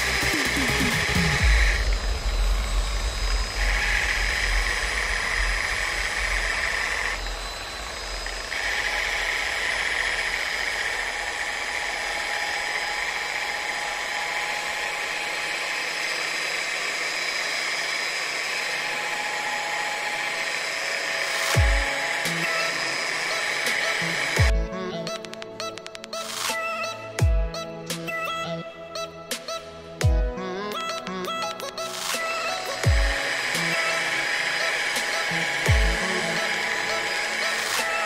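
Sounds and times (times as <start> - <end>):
angle grinder sanding resin: 0.0 - 24.5, 31.8 - 38.0.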